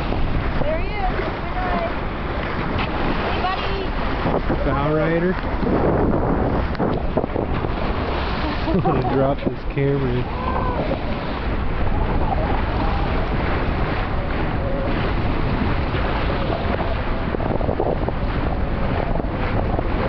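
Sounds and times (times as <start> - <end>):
water rushing along boat bow: 0.0 - 20.0
wind buffeting microphone: 0.0 - 20.0.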